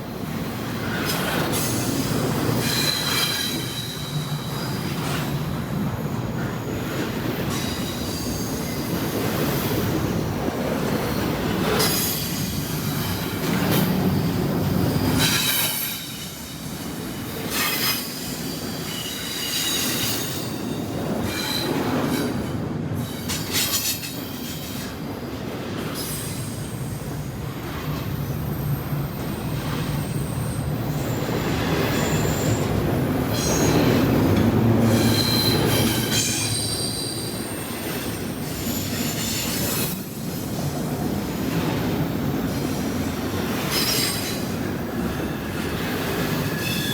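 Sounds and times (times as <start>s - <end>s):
freight train rolling past: 0.0s - 46.9s
train wheels squealing: 0.1s - 46.9s.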